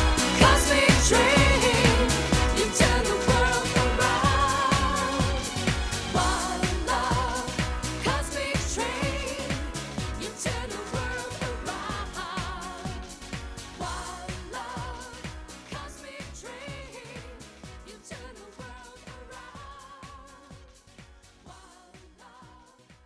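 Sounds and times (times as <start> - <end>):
women singing: 0.0 - 20.7, 21.5 - 23.0
kick-drum beat: 0.0 - 23.0.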